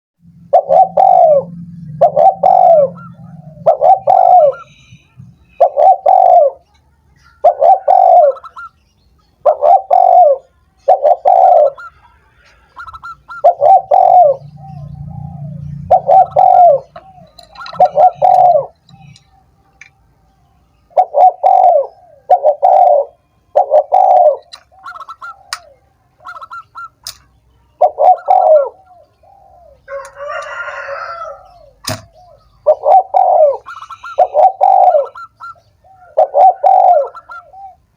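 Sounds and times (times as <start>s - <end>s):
dove cooing: 0.3s - 8.8s, 9.4s - 19.5s, 20.9s - 27.2s, 27.8s - 37.9s.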